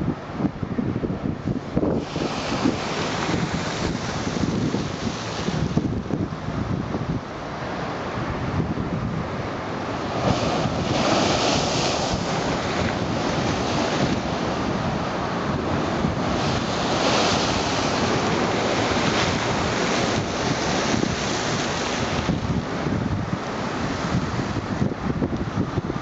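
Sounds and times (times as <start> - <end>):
wind buffeting microphone: 0.0 - 26.0
waves splashing against seawall: 1.4 - 26.0.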